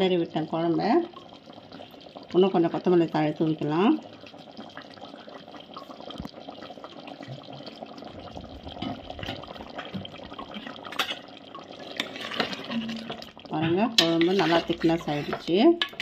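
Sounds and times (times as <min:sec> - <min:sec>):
thick curry bubbling and popping: 0:00.4 - 0:16.0.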